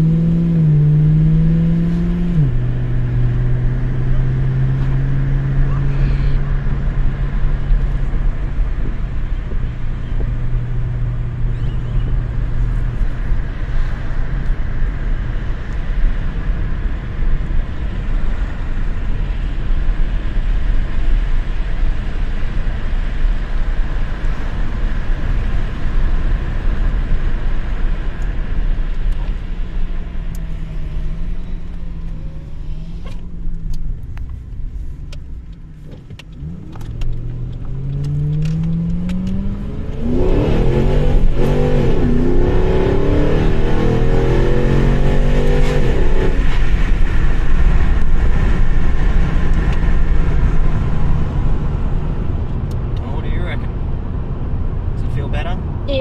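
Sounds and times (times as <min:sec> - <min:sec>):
car engine accelerating: 0:00.0 - 0:56.0
road noise inside car: 0:00.0 - 0:56.0.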